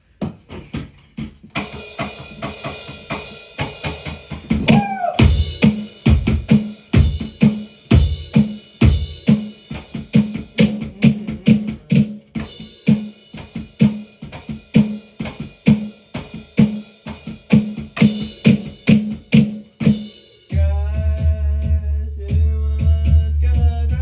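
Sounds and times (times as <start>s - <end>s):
drum kit beat: 0.0s - 24.0s.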